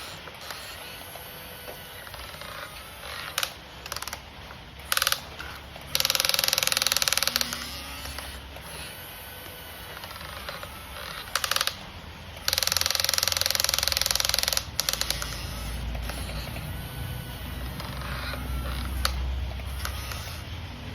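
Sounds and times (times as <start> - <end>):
ratchet-like mechanical clicking: 0.0 - 20.9.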